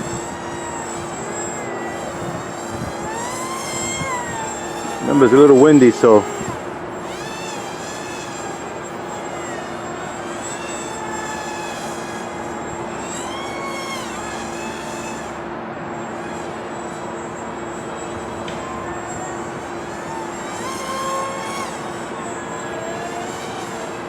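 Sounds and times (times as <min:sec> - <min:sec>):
electric motors whining in flight: 0:00.0 - 0:24.0.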